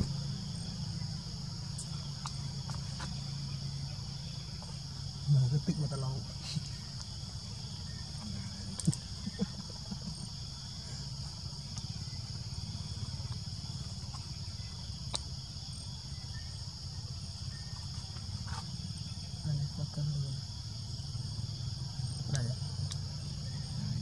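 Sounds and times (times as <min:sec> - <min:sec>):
insect chorus buzzing: 0:00.0 - 0:24.0.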